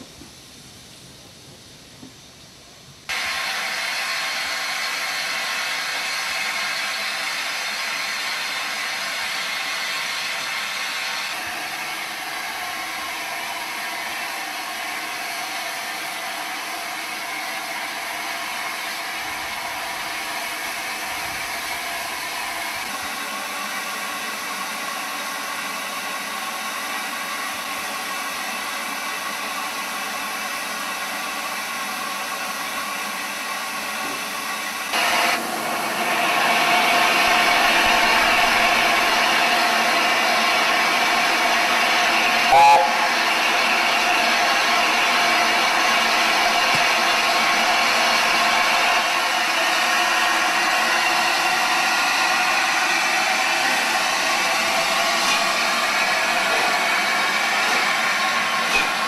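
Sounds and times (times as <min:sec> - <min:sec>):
steam escaping with loud hiss: 0:00.0 - 0:59.0.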